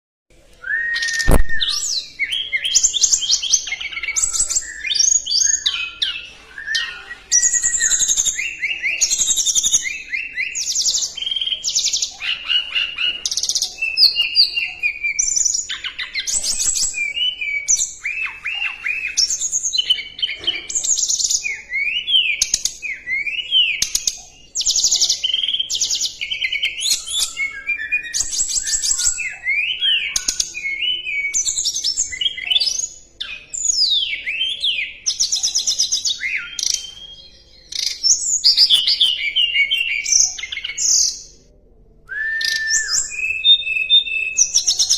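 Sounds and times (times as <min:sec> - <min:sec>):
songbird singing trills and whistles: 0:00.5 - 0:44.9.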